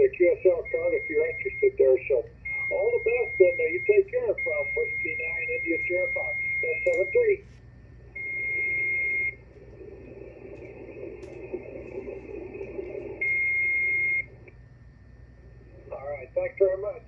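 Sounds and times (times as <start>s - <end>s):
garbled radio hiss and mumble: 0.0s - 14.6s, 15.3s - 17.0s.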